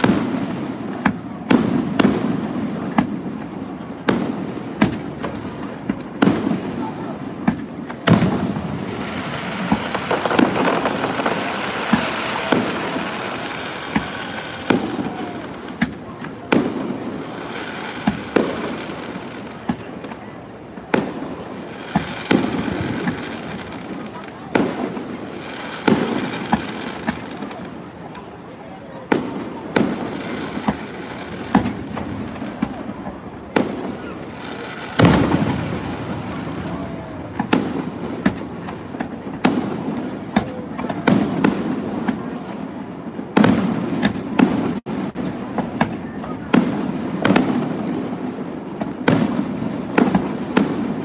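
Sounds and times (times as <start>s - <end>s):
fireworks bangs with rumbling echo: 0.0s - 51.0s.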